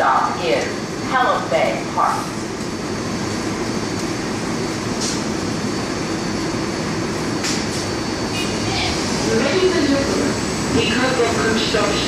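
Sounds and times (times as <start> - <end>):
subway train equipment humming: 0.0 - 12.0.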